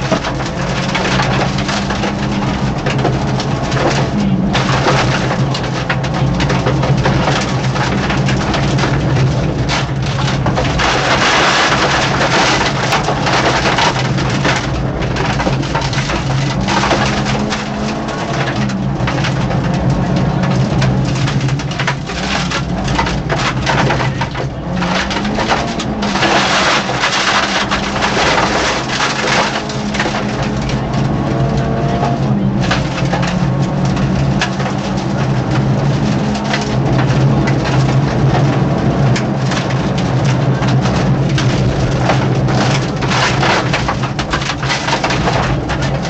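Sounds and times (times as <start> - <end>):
rally car engine revving: 0.0 - 46.0
road and tyre noise: 0.0 - 46.0.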